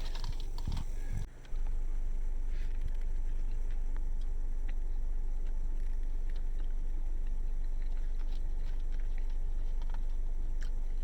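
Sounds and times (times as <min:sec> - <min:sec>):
low hum: 0:00.0 - 0:11.0
person chewing food: 0:00.0 - 0:11.0.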